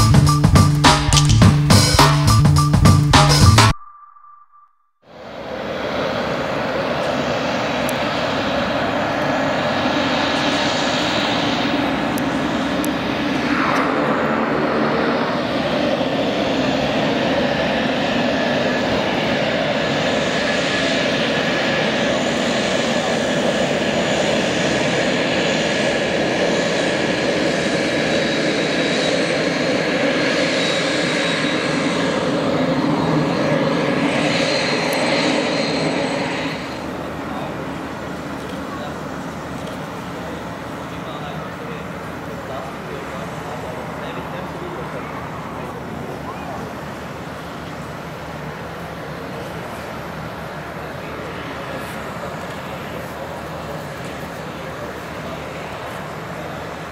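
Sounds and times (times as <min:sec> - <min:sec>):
turboprop engine drone and whine: 0:05.1 - 0:56.9.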